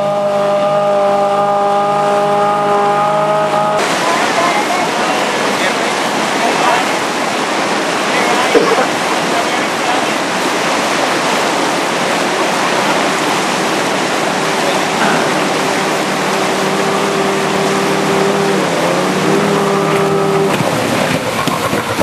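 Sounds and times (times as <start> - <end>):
outboard motor drone: 0.0 - 22.0
river rapids rushing: 0.0 - 22.0.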